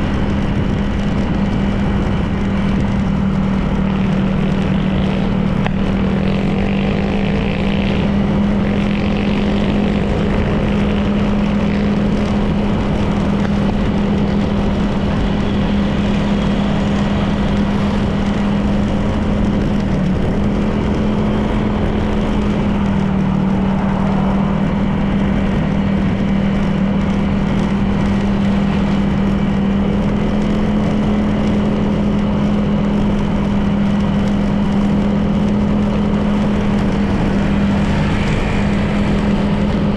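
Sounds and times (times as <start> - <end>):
scooter engine humming: 0.0 - 39.9
wind and road noise: 0.0 - 39.9.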